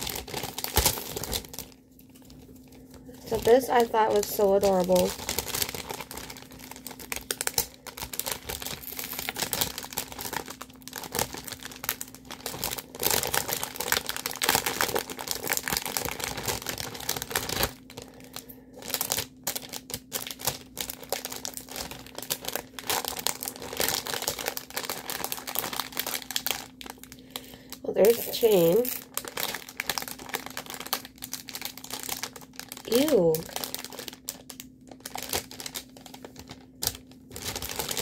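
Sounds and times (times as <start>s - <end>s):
faint steady hum: 0.0s - 38.0s
plastic bag crinkling: 0.0s - 38.0s.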